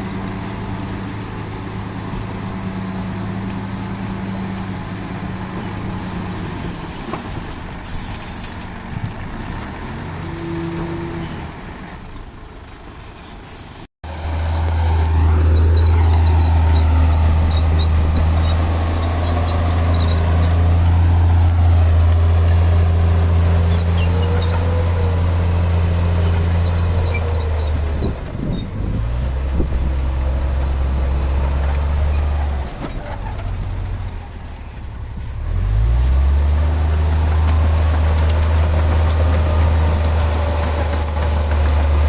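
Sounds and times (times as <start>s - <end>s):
heavy diesel engines running: 0.0s - 42.0s.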